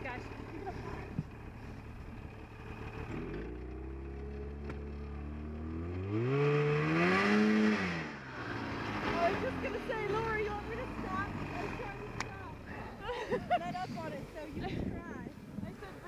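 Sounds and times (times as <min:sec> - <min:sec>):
snowmobile engine revving: 0:02.6 - 0:16.0.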